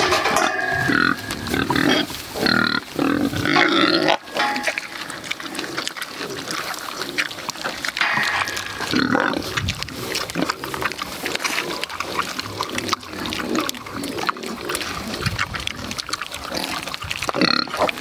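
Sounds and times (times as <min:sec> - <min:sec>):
piglets grunting: 0:00.0 - 0:18.0
wet chewing clicks: 0:00.9 - 0:18.0.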